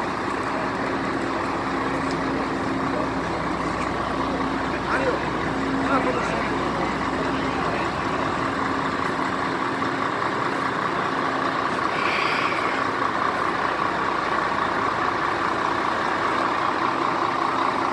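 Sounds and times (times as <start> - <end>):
truck diesel engine running: 0.0 - 17.9.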